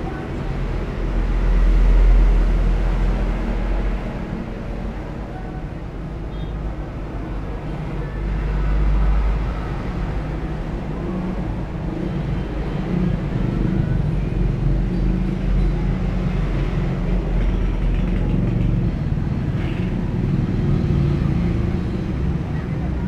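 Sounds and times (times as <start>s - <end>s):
motor vehicles engine drone: 0.0s - 23.0s.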